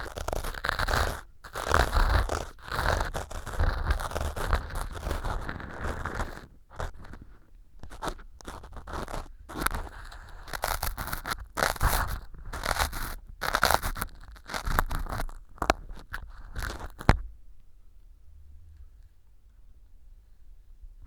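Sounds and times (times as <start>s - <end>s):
ear pick scraping foam: 0.0s - 17.2s.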